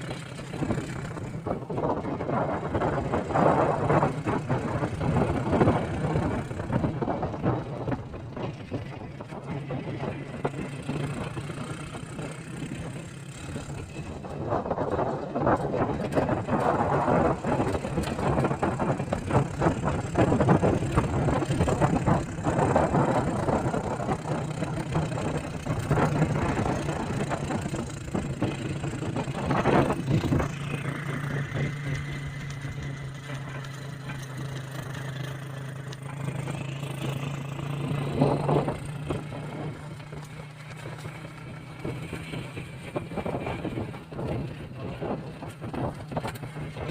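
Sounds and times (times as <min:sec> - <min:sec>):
road and rattle noise: 0:00.0 - 0:46.9
vehicle engine humming: 0:00.0 - 0:46.9.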